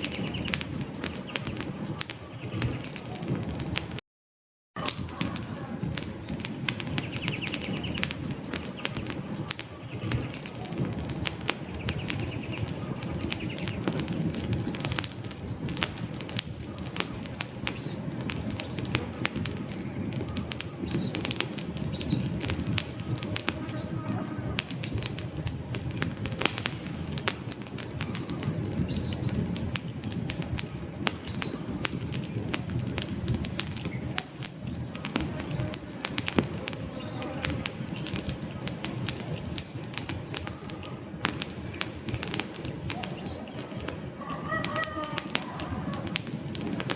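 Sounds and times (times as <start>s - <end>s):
campfire crackling and popping: 0.0s - 4.0s, 4.8s - 46.9s
flames rushing: 0.0s - 4.0s, 4.8s - 46.9s.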